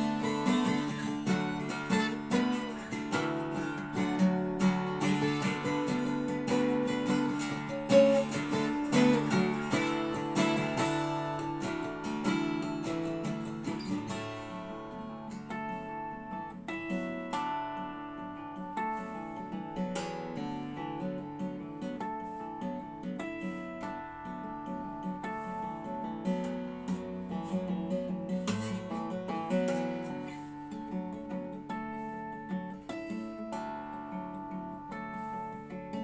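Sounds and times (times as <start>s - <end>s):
fingerpicked twelve-string guitar: 0.0s - 36.0s.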